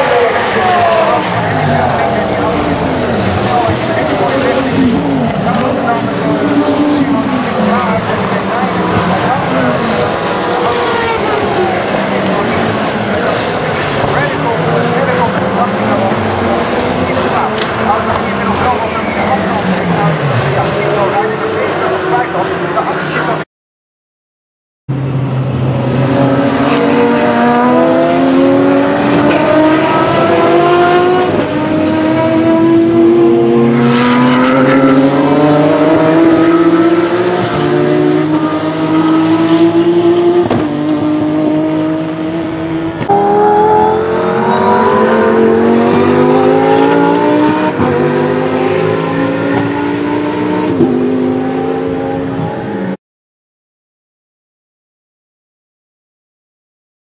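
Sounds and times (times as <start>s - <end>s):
race car engines accelerating: 0.0s - 23.4s, 24.9s - 53.0s.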